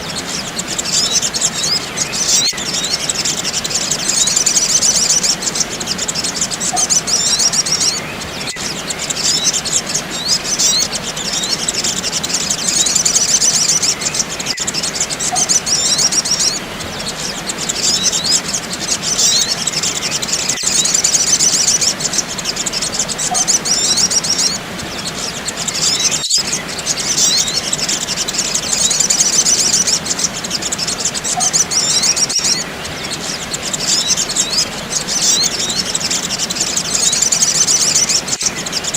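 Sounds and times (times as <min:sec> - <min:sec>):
high-pitched bird chirping: 0:00.0 - 0:38.9.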